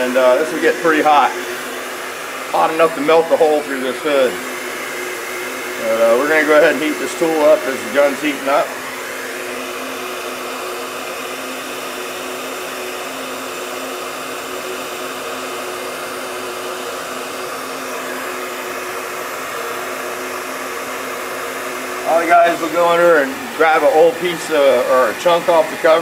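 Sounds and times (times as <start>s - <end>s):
heat gun blowing: 0.0s - 26.0s
motor hum: 0.0s - 26.0s.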